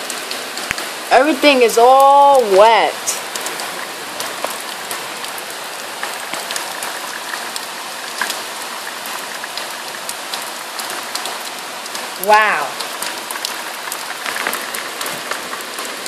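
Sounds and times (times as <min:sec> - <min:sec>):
heavy rain hiss: 0:00.0 - 0:16.0
raindrops ticking on surfaces: 0:00.0 - 0:16.0.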